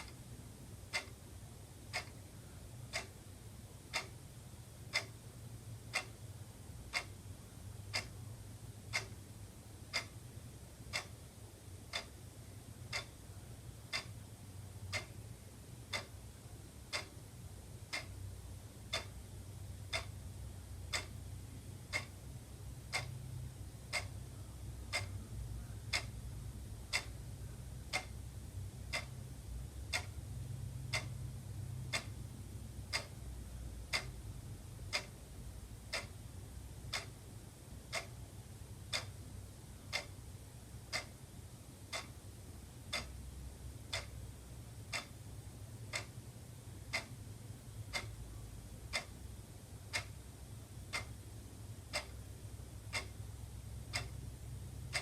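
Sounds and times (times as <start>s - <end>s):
low steady hum: 0.0s - 55.0s
wall clock ticking: 0.0s - 55.0s.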